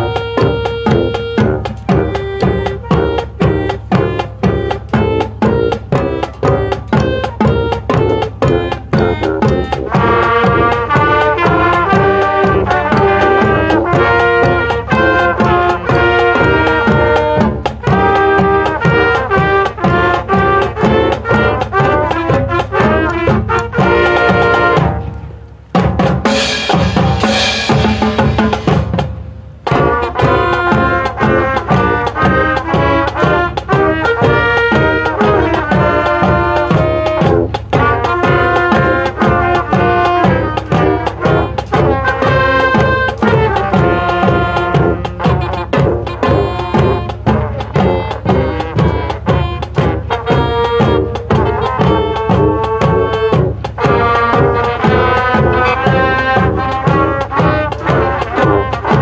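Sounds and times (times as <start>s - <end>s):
marching band playing: 0.0s - 59.0s.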